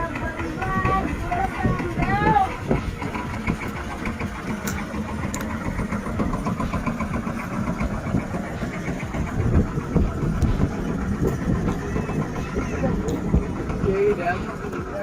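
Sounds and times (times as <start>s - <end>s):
boat engine puttering: 0.0s - 15.0s.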